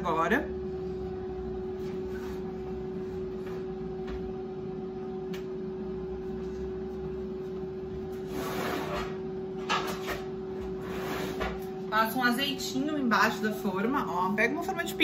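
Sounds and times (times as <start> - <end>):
air fryer humming: 0.0 - 15.0.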